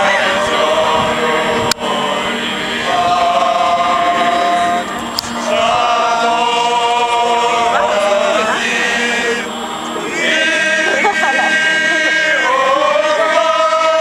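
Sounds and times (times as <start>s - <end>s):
group singing held notes: 0.0s - 14.0s.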